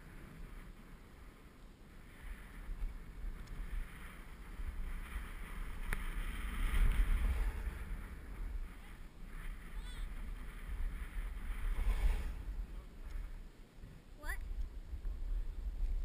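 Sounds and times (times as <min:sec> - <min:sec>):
snowboard scraping over snow: 0:00.0 - 0:13.5
wind buffeting microphone: 0:00.0 - 0:16.0.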